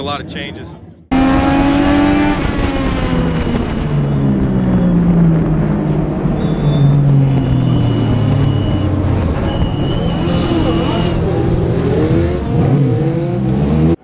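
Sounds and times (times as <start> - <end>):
racing car engine at speed: 1.1 - 14.0.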